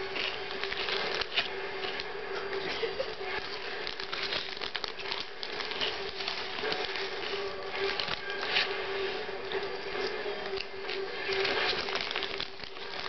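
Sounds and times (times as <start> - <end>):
chip bag crinkling: 0.0 - 13.0.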